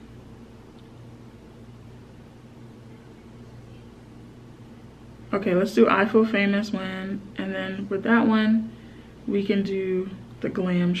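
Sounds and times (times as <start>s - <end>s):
steady low hum with hiss: 0.0s - 11.0s.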